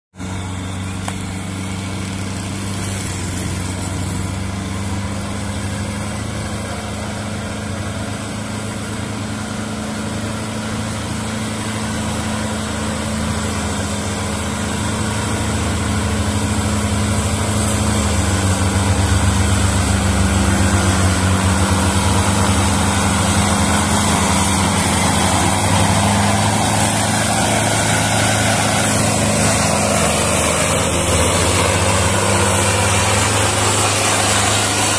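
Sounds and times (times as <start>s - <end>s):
diesel tractor engine under load: 0.1s - 34.9s.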